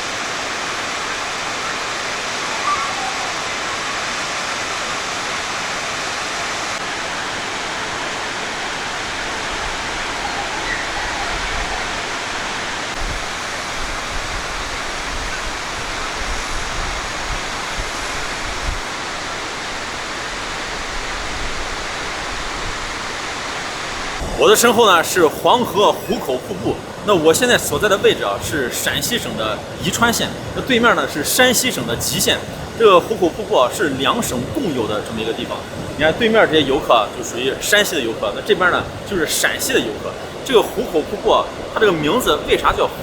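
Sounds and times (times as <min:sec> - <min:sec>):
waterfall roaring: 0:00.0 - 0:43.0.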